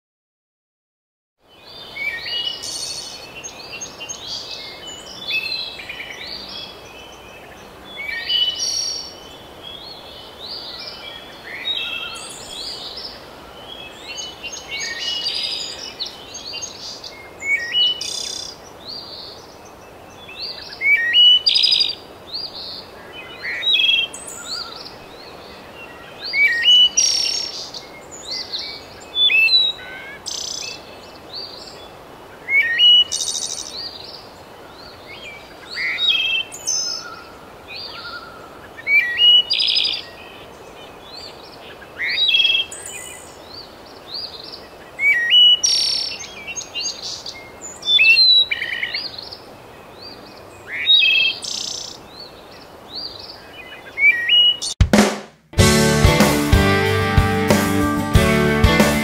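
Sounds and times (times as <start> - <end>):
small birds chirping and trilling: 1.4 - 54.8
steady outdoor hiss: 1.4 - 59.0.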